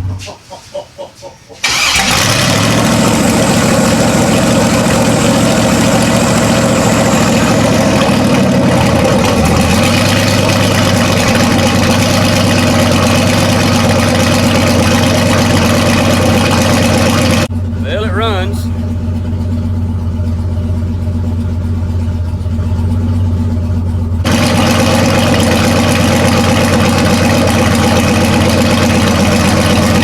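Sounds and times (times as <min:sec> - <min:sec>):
car engine idling loudly: 0:01.7 - 0:30.0.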